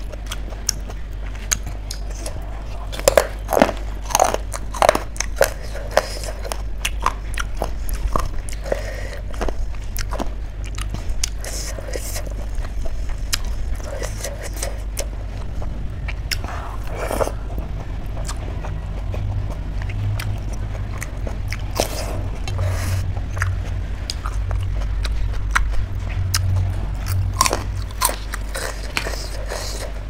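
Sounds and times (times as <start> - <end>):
chewing and biting: 0.0 - 30.0
steady low hum: 0.0 - 30.0.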